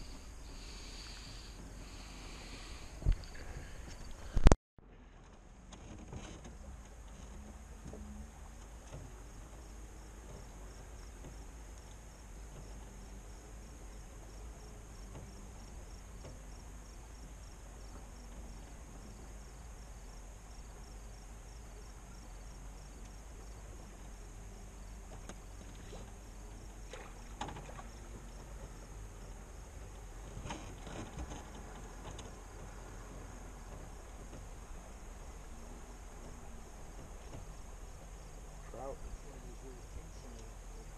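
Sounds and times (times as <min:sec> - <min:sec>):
crickets chirping: 0:00.0 - 0:04.5, 0:06.6 - 0:40.9
low steady rumble: 0:00.0 - 0:40.9.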